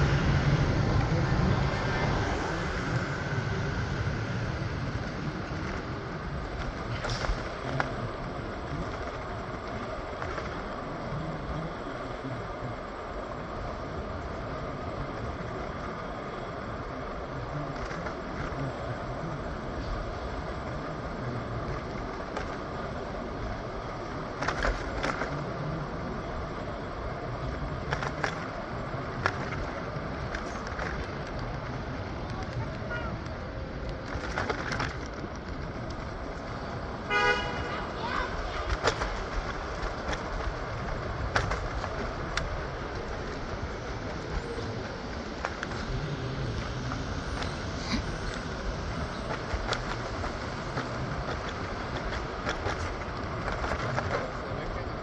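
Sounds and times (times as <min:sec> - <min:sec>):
moving vehicle rumble and hiss: 0:00.0 - 0:55.0.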